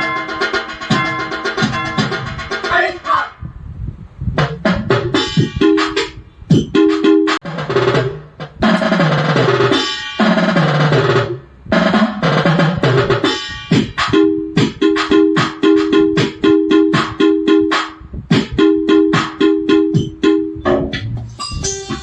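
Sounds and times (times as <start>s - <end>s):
electronic drum hits: 0.0s - 2.7s, 4.4s - 22.0s.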